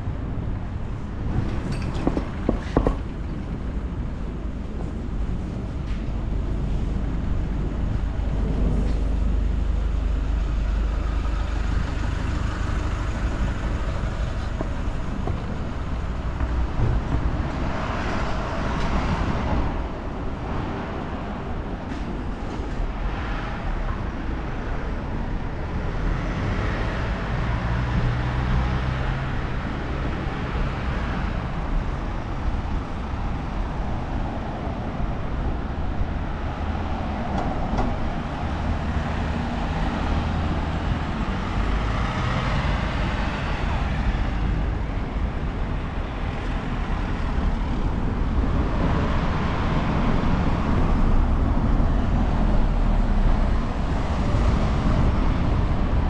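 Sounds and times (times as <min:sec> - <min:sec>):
traffic rumble: 0:00.0 - 0:56.0
vehicles passing by: 0:00.0 - 0:56.0.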